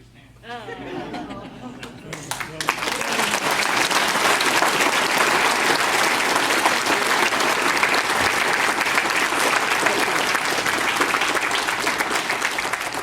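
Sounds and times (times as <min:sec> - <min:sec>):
audience applauding: 0:00.8 - 0:13.0.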